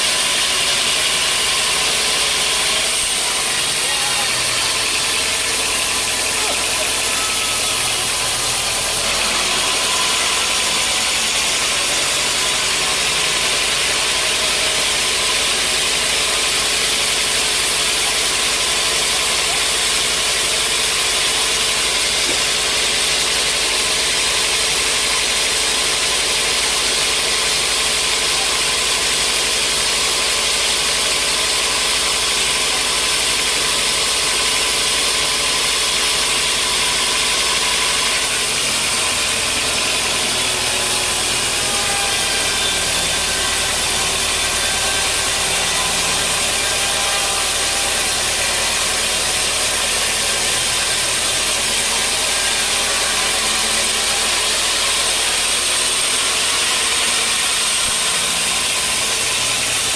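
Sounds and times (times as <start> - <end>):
sawmill machinery whirring: 0.0 - 59.9.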